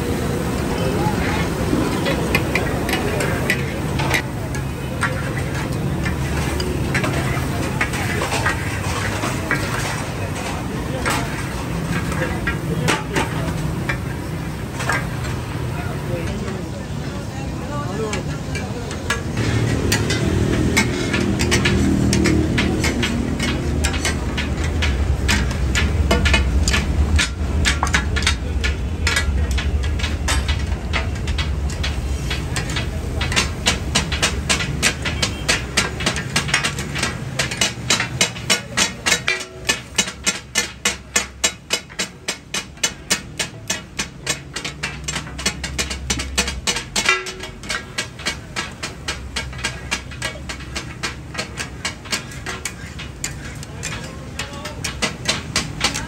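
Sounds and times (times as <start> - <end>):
spatulas clattering on iron griddle: 0.4 - 56.0.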